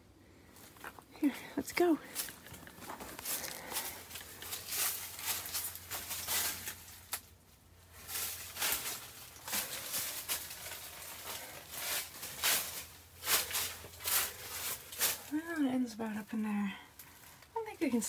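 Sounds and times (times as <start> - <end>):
crunching footsteps on trail: 0.4 - 15.5.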